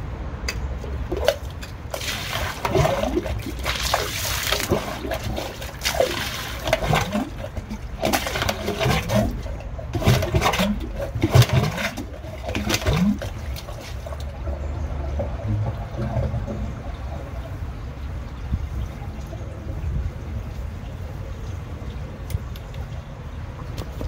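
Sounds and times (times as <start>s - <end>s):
low hum: 0.0s - 24.0s
dirty water gurgling and sloshing: 0.7s - 24.0s.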